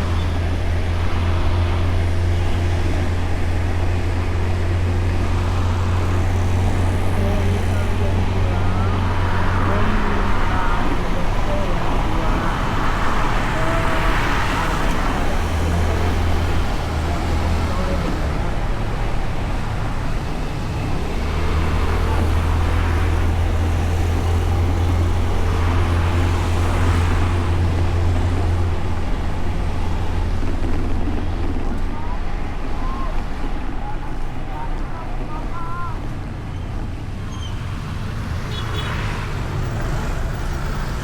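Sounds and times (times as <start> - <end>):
scooter engine drone: 0.0 - 36.9
road noise: 0.0 - 41.0
rushing wind: 0.0 - 41.0.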